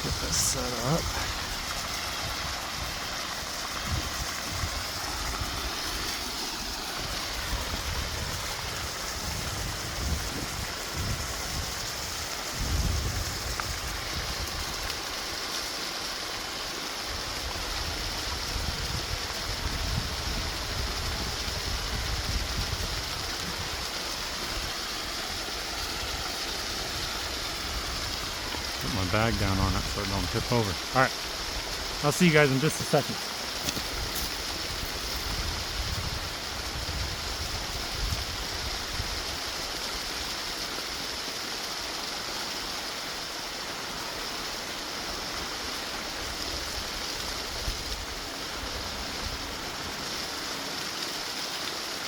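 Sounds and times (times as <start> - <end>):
water pouring from pipe: 0.0 - 52.0.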